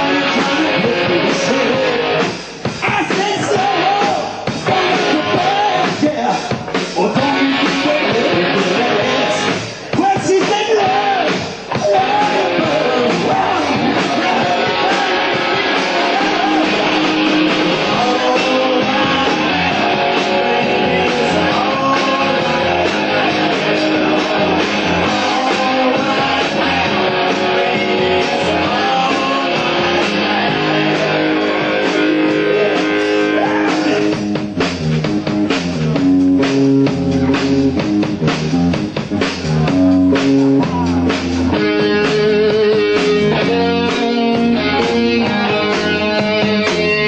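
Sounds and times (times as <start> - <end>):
bass guitar: 0.0 - 47.0
drum kit: 0.0 - 47.0
electric guitars: 0.0 - 47.0.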